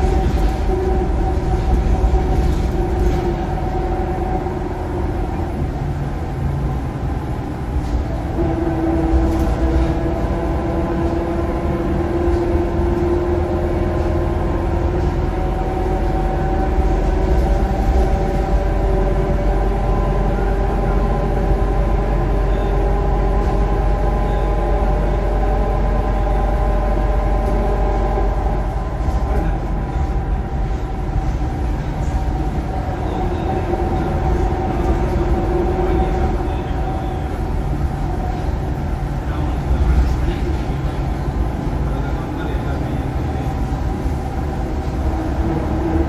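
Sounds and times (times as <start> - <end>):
bus engine deep rumble: 0.0 - 46.0.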